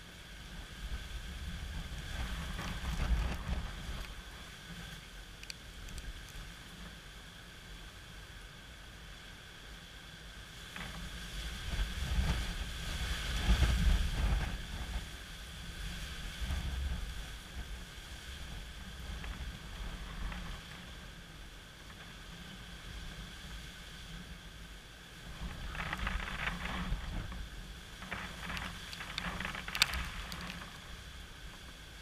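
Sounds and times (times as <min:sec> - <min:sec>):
hiss of rain: 0:00.0 - 0:32.0
gusty wind buffeting microphone: 0:00.3 - 0:06.9, 0:10.7 - 0:32.0.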